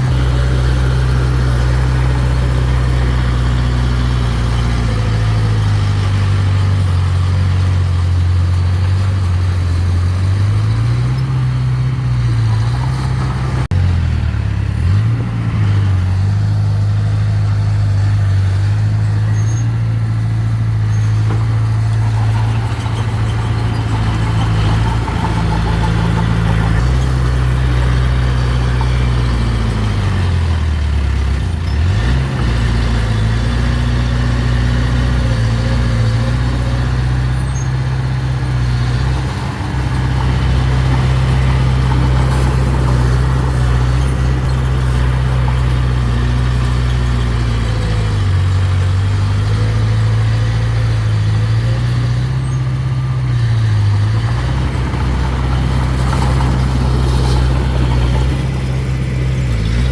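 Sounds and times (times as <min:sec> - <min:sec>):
diesel engine running loudly: 0:00.0 - 0:59.9.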